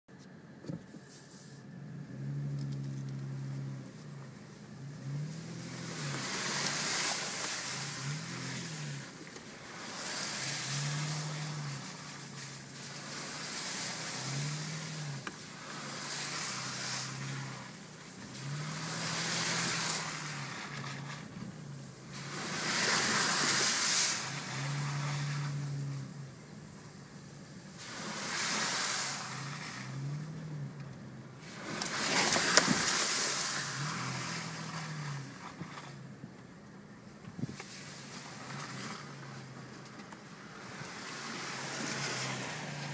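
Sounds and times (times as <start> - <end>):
car engine revving: 1.7 - 42.9
water and mud splashing: 3.4 - 36.2, 37.4 - 42.9.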